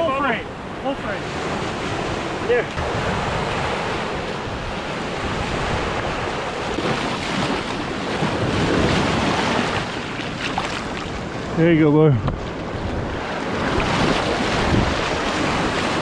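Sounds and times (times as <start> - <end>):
ocean surf: 0.0 - 16.0
wind on microphone: 1.3 - 16.0.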